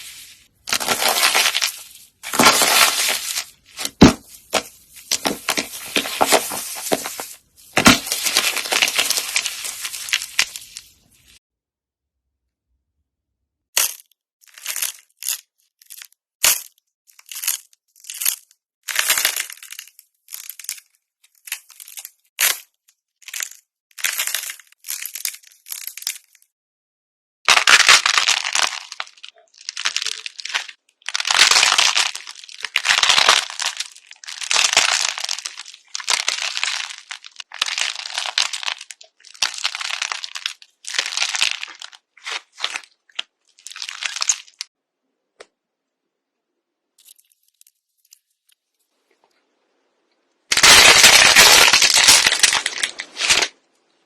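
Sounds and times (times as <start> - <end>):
crackling and crunching: 0.0 - 11.4, 13.8 - 26.5, 27.5 - 44.8, 50.4 - 54.0.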